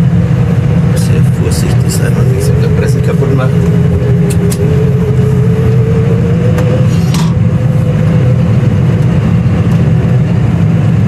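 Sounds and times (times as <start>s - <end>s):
thin whine: 0.0s - 11.0s.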